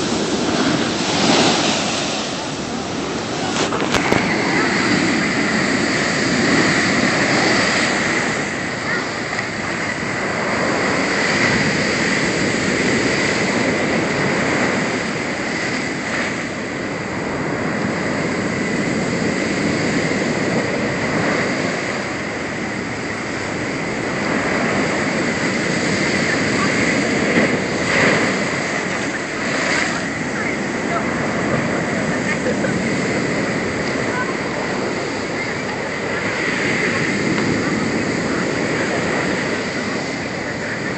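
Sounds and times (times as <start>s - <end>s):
heavy surf crashing: 0.0s - 40.9s.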